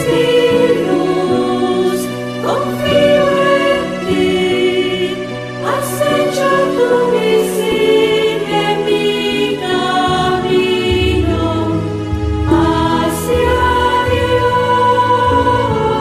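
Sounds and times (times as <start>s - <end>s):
choir singing long notes: 0.0s - 16.0s.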